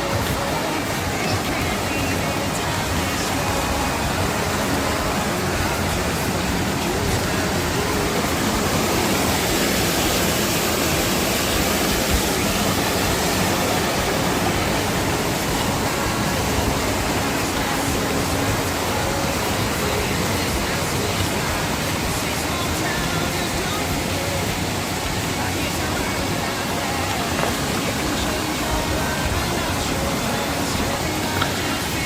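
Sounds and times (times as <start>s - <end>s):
stream rushing over rocks: 0.0s - 32.0s.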